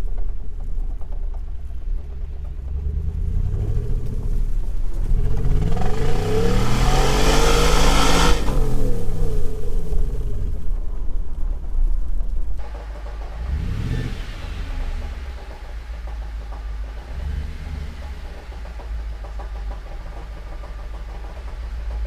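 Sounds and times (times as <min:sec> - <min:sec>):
car engine revving with knocking: 0:00.0 - 0:22.0.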